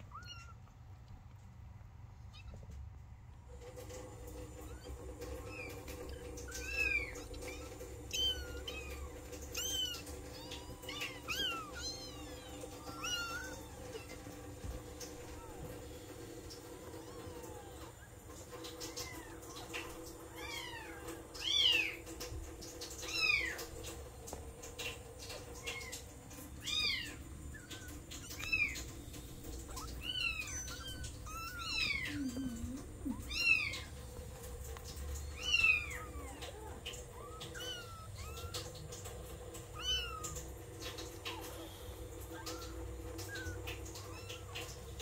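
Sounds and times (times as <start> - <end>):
faint clicks: 2.5 - 45.0
kittens mewing: 3.5 - 45.0.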